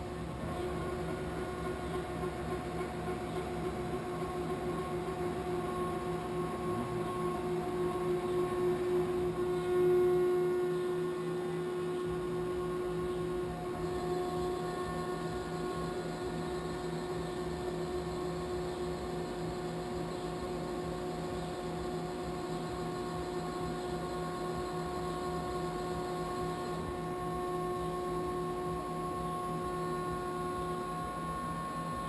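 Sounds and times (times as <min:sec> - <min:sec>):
machine hum: 0:00.0 - 0:32.0
machine whining tones: 0:00.0 - 0:32.0.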